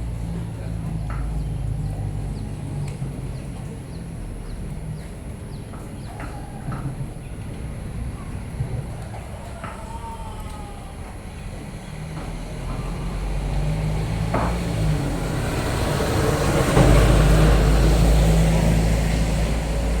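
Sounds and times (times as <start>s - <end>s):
vehicle engine approaching: 0.0s - 20.0s.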